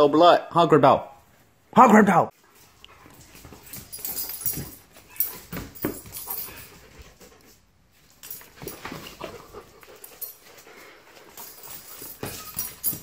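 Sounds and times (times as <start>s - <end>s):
dogs scuffling on tile floor: 2.4s - 13.0s.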